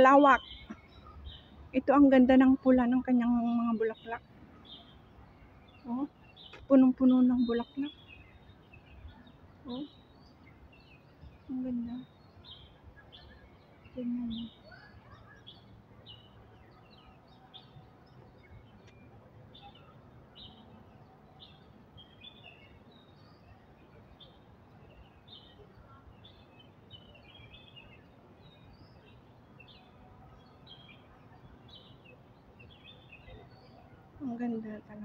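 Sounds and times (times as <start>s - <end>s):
faint bird chirps: 0.0s - 35.0s.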